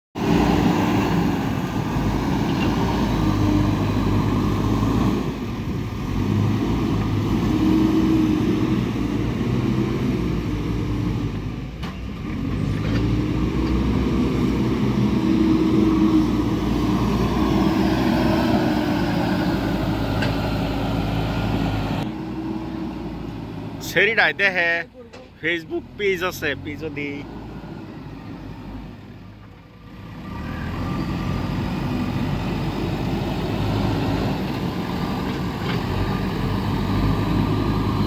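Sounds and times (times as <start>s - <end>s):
backhoe diesel engine under load: 0.2s - 38.0s.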